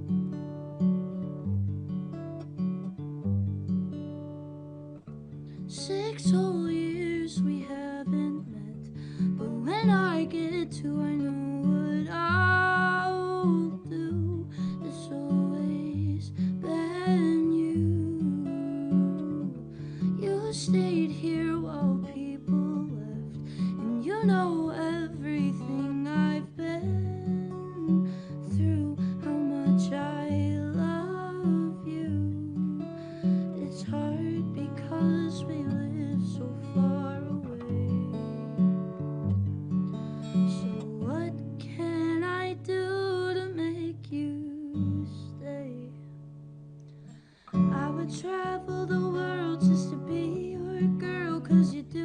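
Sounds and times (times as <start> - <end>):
acoustic guitar: 0.0 - 52.0
woman singing: 5.6 - 38.8, 40.2 - 46.2, 47.4 - 52.0.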